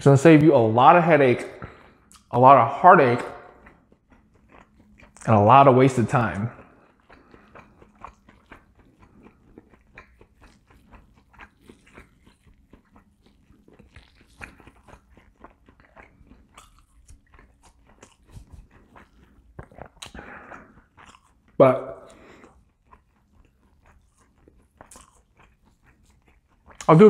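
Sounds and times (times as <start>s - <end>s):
person chewing food: 1.4s - 27.0s.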